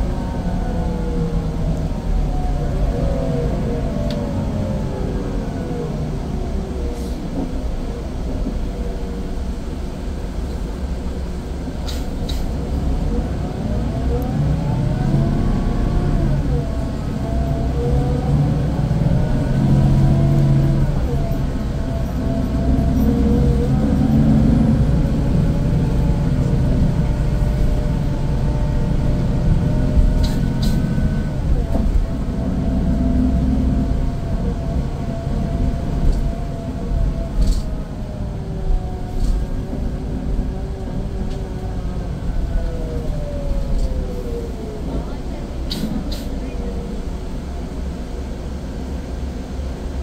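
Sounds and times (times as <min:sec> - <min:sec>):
diesel coach engine accelerating: 0:00.0 - 0:50.0.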